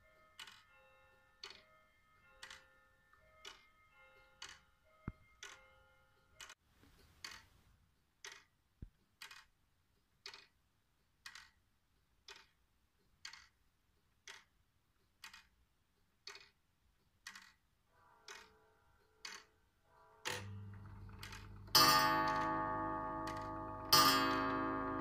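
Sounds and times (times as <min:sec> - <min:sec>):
clock ticking: 0:00.0 - 0:25.0.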